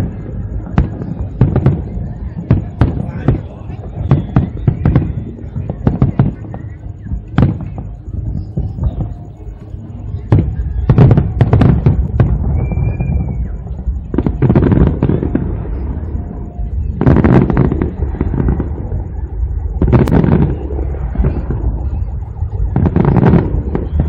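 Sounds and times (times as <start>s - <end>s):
deep rumble: 0.0s - 24.0s.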